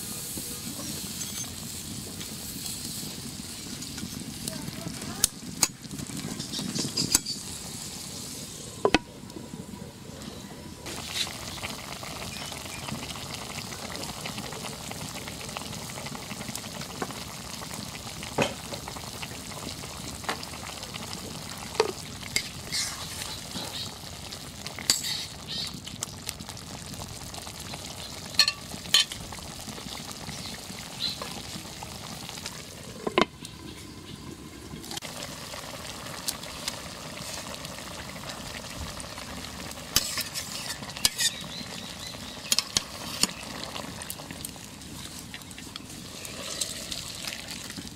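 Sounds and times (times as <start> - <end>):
curry sizzling and bubbling: 0.0 - 47.9.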